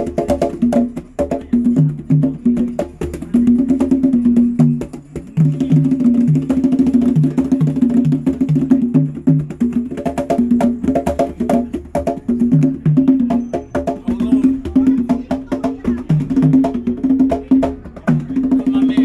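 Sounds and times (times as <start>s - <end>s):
hand drums playing: 0.0s - 19.0s.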